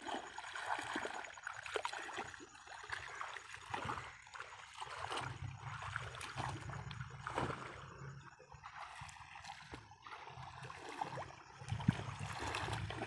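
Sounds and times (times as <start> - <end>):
people wading through muddy water: 0.0 - 13.0.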